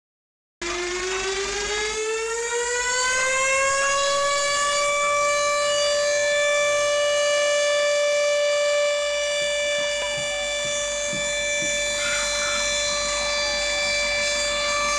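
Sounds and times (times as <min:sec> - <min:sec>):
siren winding up: 0:00.6 - 0:14.9.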